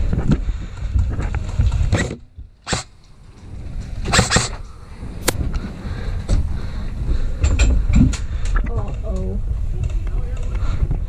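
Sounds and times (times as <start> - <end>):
low rumbling microphone noise: 0.0 - 11.0.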